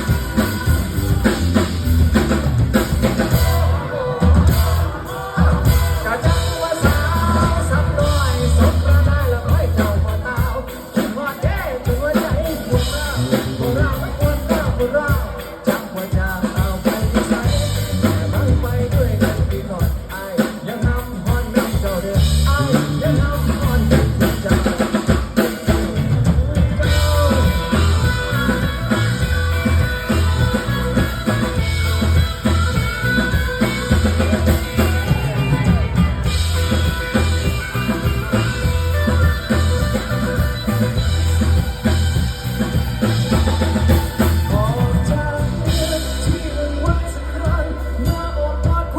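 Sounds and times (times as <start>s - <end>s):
live band playing pop-rock: 0.0s - 48.9s.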